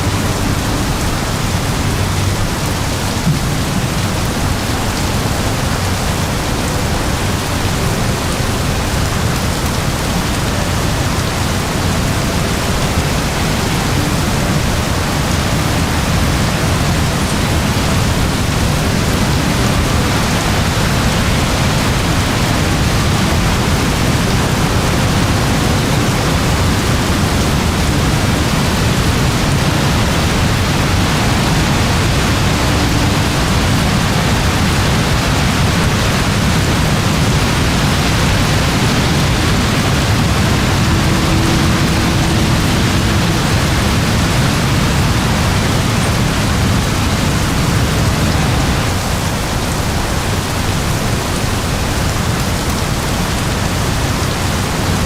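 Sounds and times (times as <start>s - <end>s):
heavy rain downpour: 0.0s - 55.0s.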